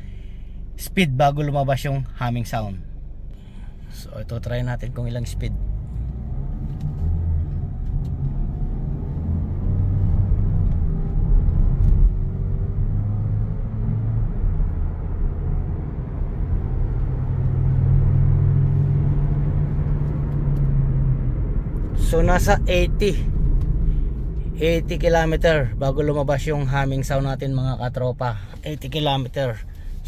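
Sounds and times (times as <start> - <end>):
low hum: 0.0 - 30.0
road rumble inside car: 0.0 - 30.0.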